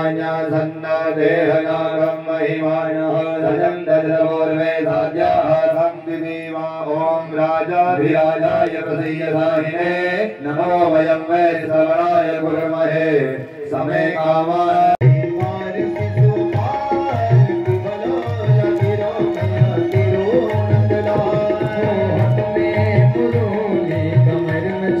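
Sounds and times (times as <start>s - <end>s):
devotional chanting: 0.0s - 25.0s.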